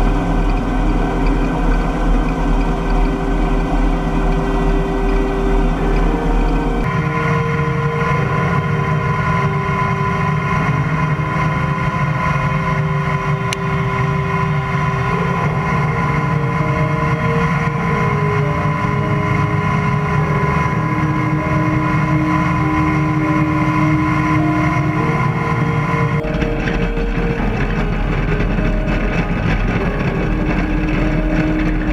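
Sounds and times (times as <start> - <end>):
combine harvester drone: 0.0 - 31.9.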